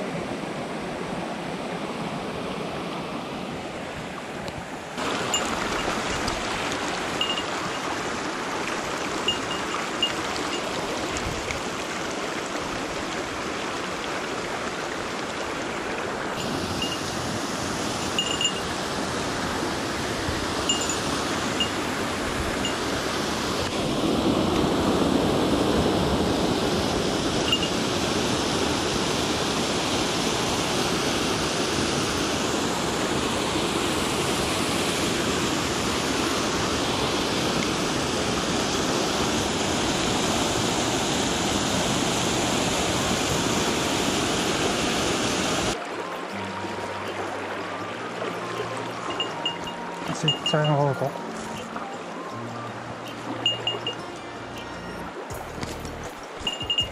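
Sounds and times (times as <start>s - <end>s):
stream rushing over rocks: 0.0s - 56.9s
water pouring over a dam: 5.0s - 51.0s.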